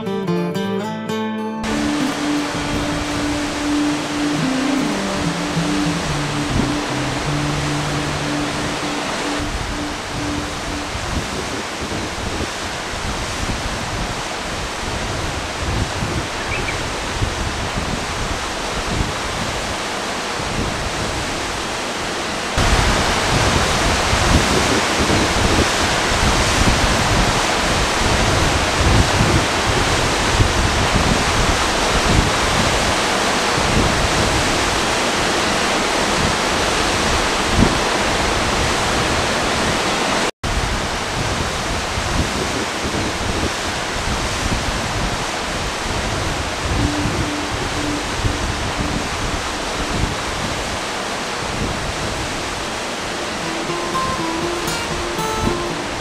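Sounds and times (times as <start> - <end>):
waterfall rushing: 1.6 - 56.0.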